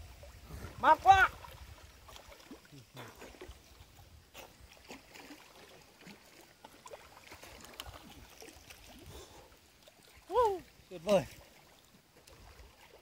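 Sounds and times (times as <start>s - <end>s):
water lapping and splashing: 0.0s - 13.0s.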